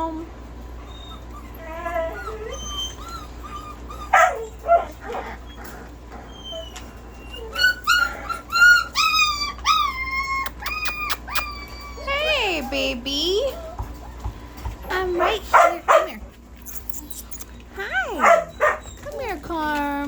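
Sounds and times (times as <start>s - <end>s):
dogs whining and yipping: 0.4s - 19.9s.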